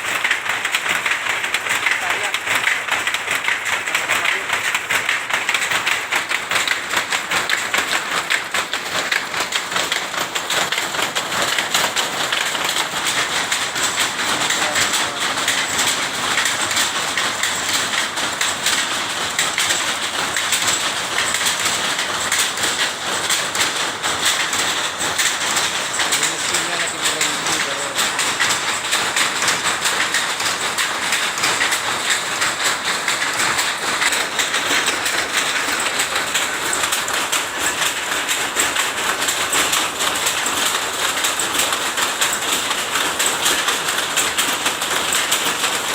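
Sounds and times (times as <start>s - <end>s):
textile machine clattering: 0.0s - 45.9s.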